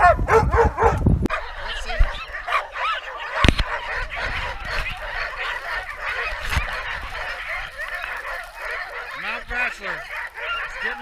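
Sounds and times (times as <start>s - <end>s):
dogs yelping and barking: 0.0s - 11.0s.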